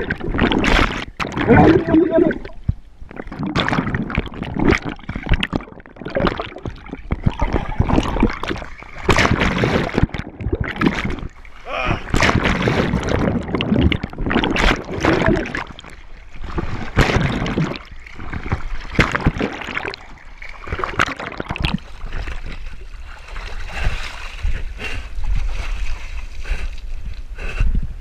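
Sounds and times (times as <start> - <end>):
water sloshing and splashing: 0.0 - 27.3.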